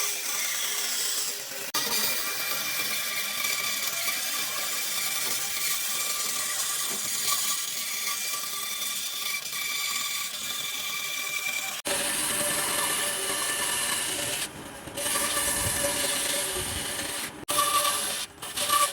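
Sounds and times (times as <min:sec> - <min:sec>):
power tool whining on wood: 0:00.0 - 0:18.9.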